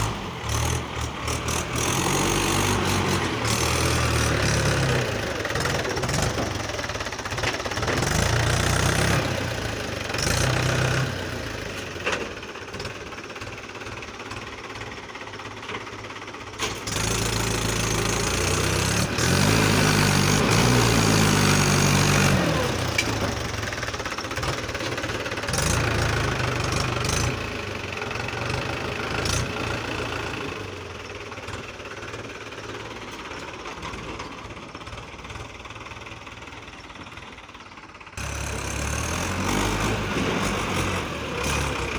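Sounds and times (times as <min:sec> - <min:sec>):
tractor engine knocking: 0:00.0 - 0:41.9.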